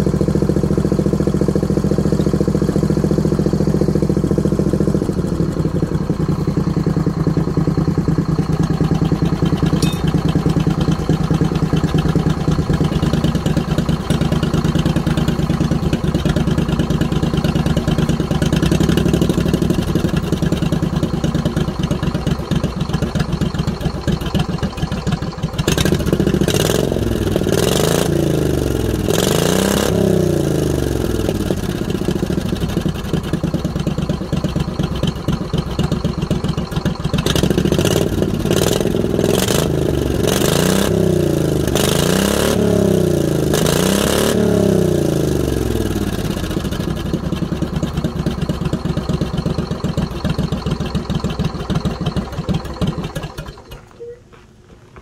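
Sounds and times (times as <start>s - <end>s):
lawn tractor engine idling and revving: 0.0s - 54.1s.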